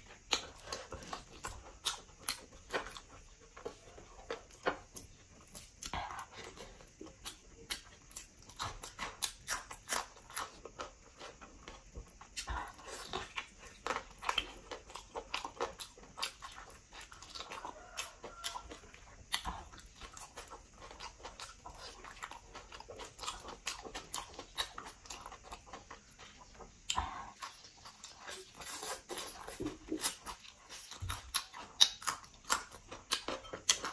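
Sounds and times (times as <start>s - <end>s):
person chewing with mouth smacks: 0.0s - 33.9s.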